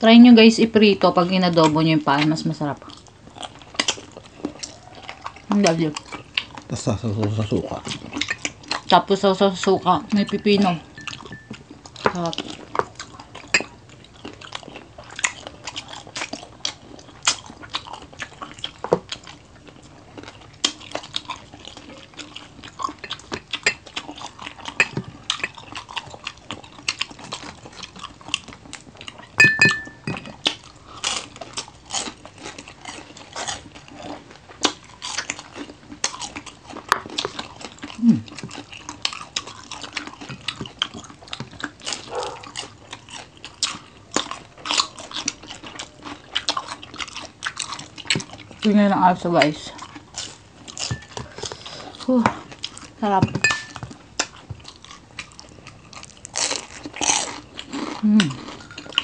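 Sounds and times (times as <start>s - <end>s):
crunching and chewing of fried food: 0.0s - 59.0s.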